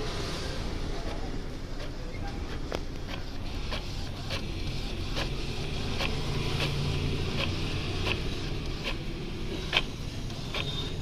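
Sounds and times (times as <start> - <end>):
printer motor hum: 0.0 - 11.0
print head clicking: 1.0 - 11.0.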